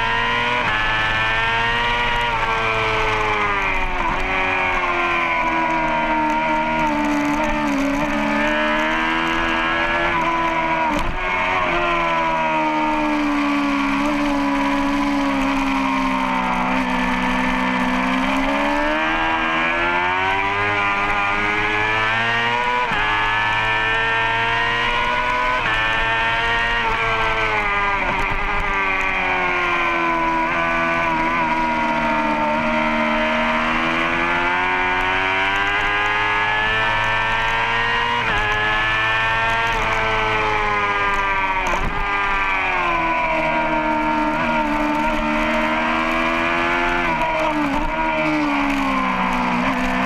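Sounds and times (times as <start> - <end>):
motorcycle engine at high revs: 0.0 - 50.0.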